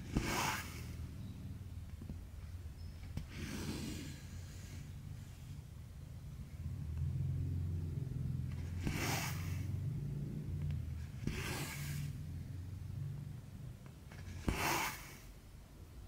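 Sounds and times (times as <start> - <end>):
low steady hum: 0.0 - 14.6.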